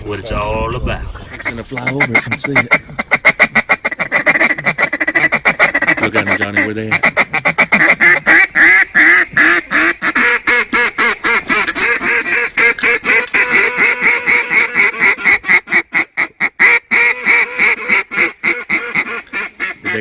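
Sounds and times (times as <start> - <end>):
duck call quacks: 1.3 - 20.0.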